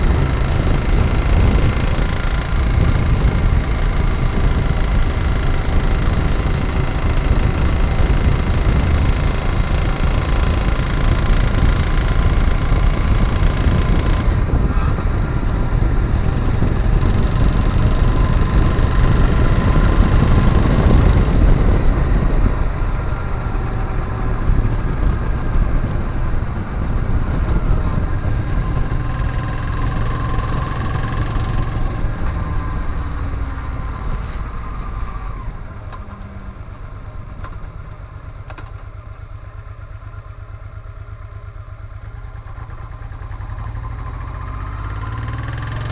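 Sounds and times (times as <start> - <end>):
motorcycle engine knocking: 0.0 - 45.9.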